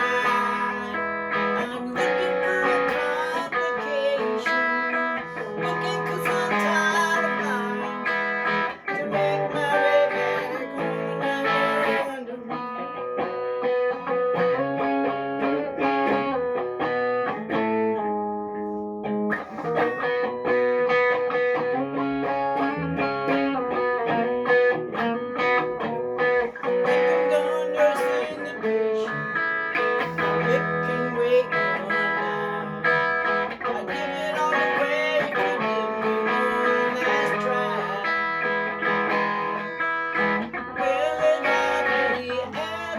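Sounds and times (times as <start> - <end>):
plucked guitar music: 0.0 - 42.9.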